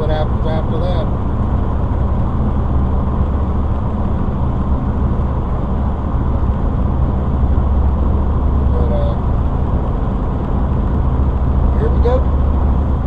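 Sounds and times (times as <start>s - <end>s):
van road and engine noise: 0.0s - 13.0s.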